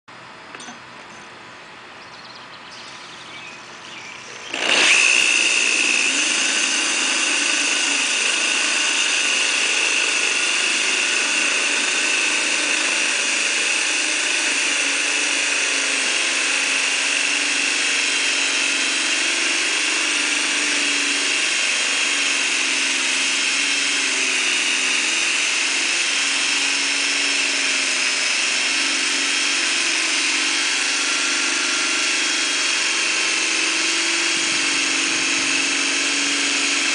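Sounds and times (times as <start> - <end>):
electric drill cutting concrete: 4.3 - 36.9.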